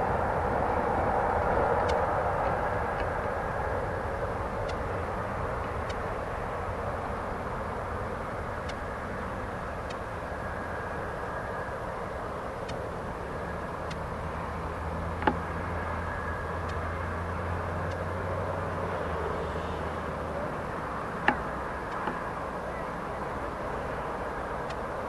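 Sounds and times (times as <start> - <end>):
distant aircraft engines rumbling: 0.0 - 25.0.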